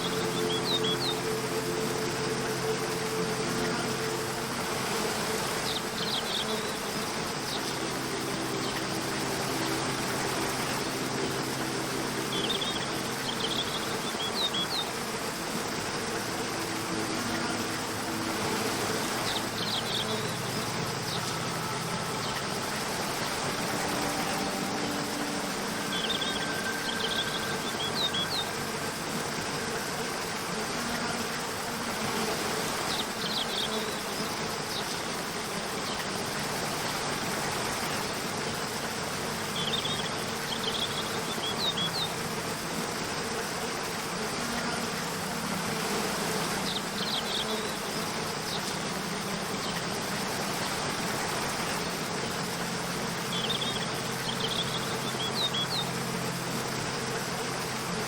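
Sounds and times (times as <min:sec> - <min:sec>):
soft background music: 0:00.0 - 0:58.0
waterfall rushing: 0:00.0 - 0:58.0.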